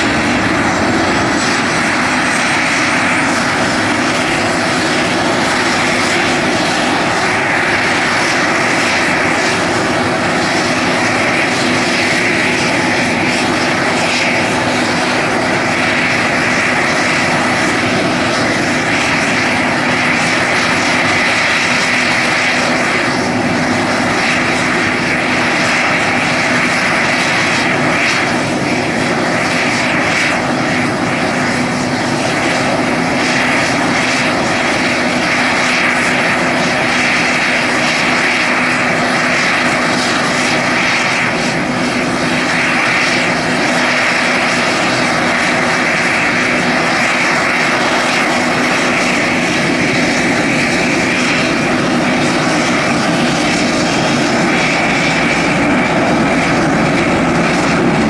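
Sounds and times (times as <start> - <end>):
helicopter rotors turning: 0.0 - 58.0
helicopter turbine whine: 0.0 - 58.0.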